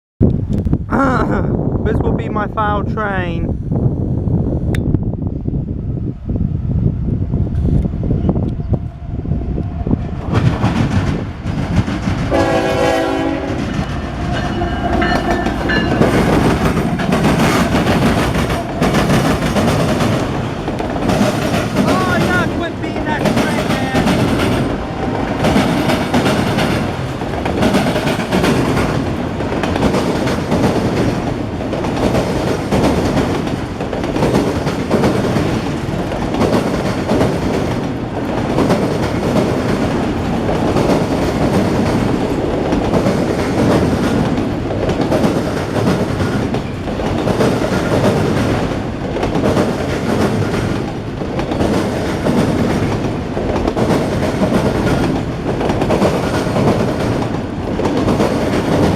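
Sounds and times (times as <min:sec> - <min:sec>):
freight train rumbling: 0:00.2 - 0:58.9
train wheels clattering: 0:10.2 - 0:58.9.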